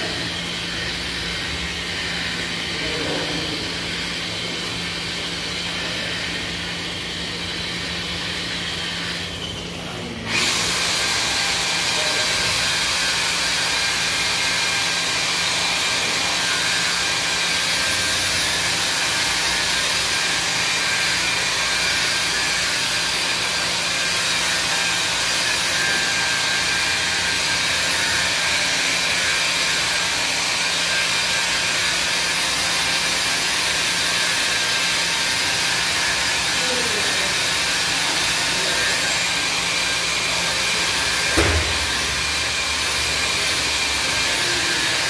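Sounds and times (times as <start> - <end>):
blower hissing: 0.0 - 45.0.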